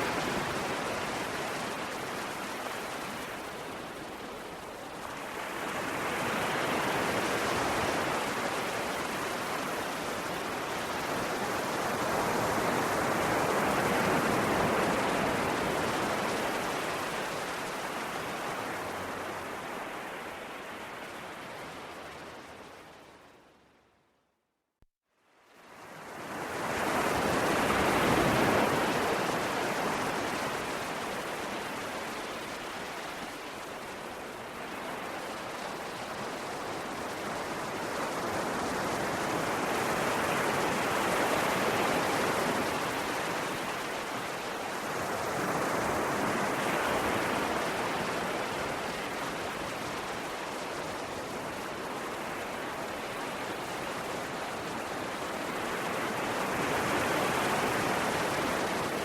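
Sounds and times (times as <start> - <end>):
sea waves breaking on shore: 0.0 - 23.3, 25.6 - 59.0.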